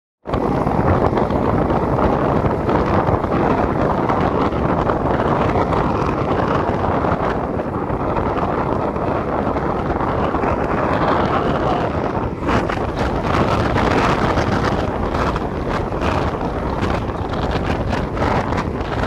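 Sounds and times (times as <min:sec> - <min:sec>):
wind buffeting microphone: 0:00.2 - 0:19.0.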